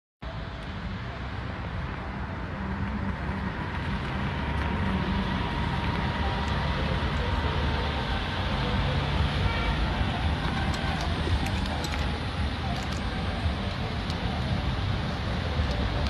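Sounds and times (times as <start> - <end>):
traffic noise: 0.2 - 16.0
car engine rumbling: 0.6 - 16.0.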